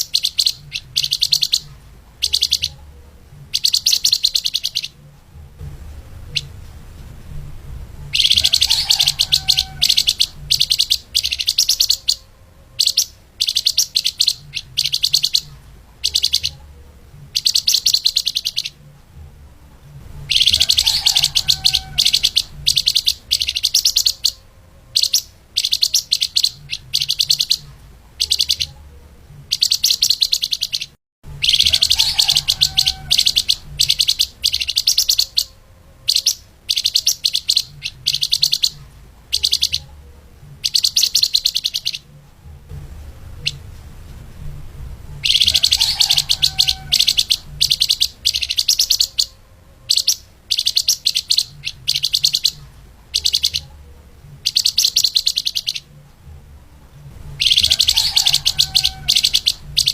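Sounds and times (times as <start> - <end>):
songbird rapid high chirps: 0.0 - 5.4, 6.2 - 6.6, 8.0 - 18.9, 20.2 - 42.2, 45.2 - 56.0, 57.2 - 59.9
faint low hum: 0.0 - 59.9.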